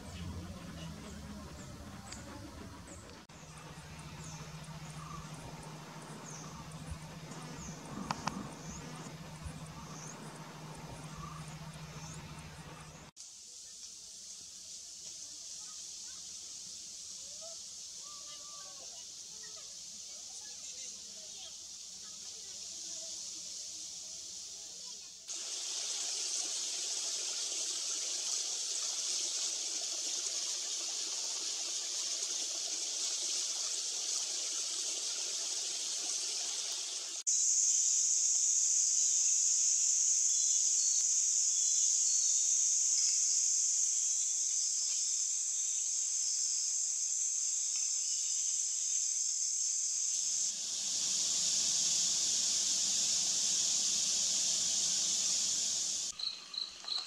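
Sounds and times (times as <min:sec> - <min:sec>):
high-pitched insect drone: 0:00.0 - 0:13.6, 0:14.2 - 0:57.0
steady hiss: 0:00.0 - 0:57.0.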